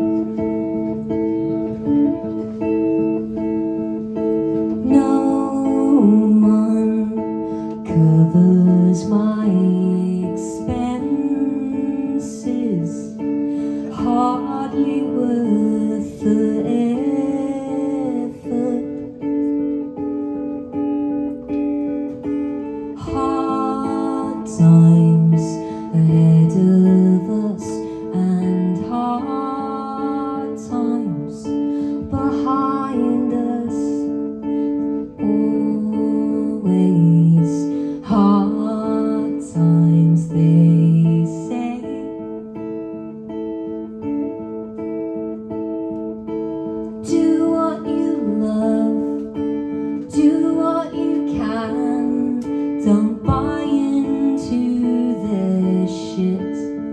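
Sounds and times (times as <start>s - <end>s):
guitar playing picked and strummed: 0.0s - 56.9s.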